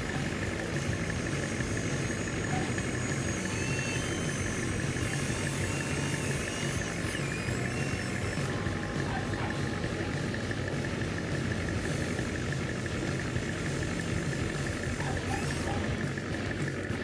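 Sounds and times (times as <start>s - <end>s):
thin high whine: 0.0s - 16.2s
engine idling: 0.0s - 17.0s.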